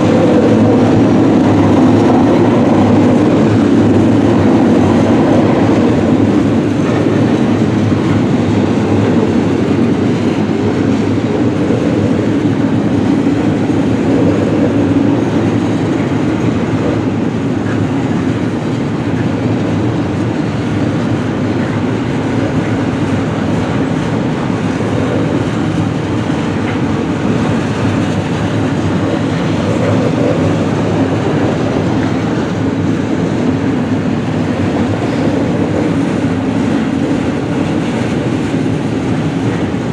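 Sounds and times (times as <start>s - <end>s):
freight train rolling on rails: 0.0s - 39.9s.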